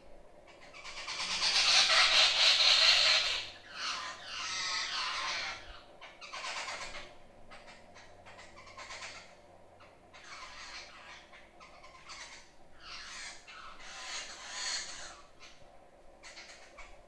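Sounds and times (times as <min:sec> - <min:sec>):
birds squealing chatter: 0:00.4 - 0:15.6, 0:16.2 - 0:17.0.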